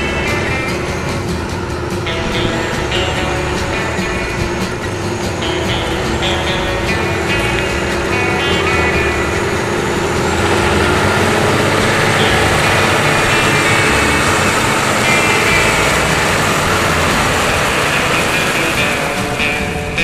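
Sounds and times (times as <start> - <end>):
tyres rolling on wet gravel: 0.0 - 19.8
tractor diesel engine under load: 0.0 - 20.0.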